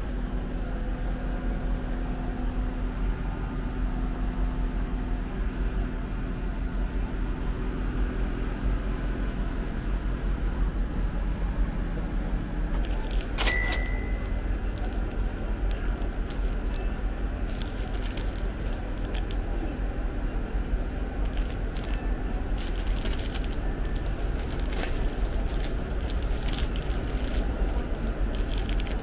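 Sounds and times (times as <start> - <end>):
low rumble with faint hum: 0.0 - 29.0.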